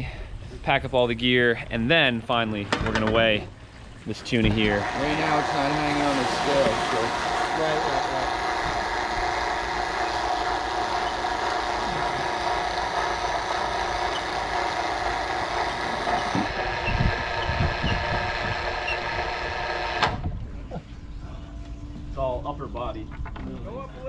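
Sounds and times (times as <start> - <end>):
engine idling hum: 3.4 - 24.0.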